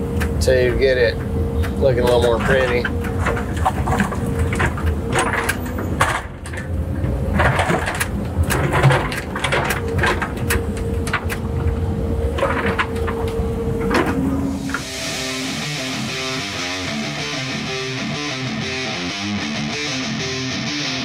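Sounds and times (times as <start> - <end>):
excavator engine humming: 0.0 - 21.0.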